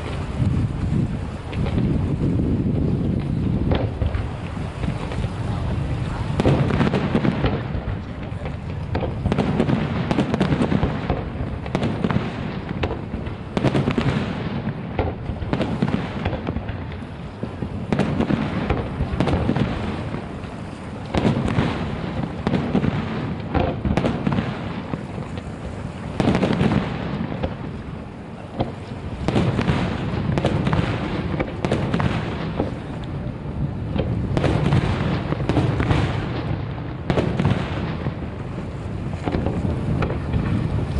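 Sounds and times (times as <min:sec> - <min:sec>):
fireworks booms and crackles: 0:00.0 - 0:40.9.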